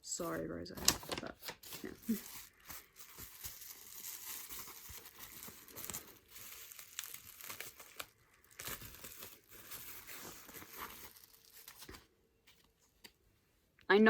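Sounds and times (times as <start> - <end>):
packaging crinkling and rustling: 0.7 - 13.2.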